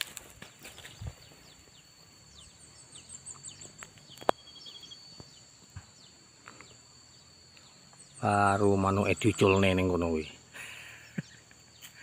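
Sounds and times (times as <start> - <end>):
high-pitched insect buzz: 0.0 - 12.0
small birds chirping: 0.0 - 12.0.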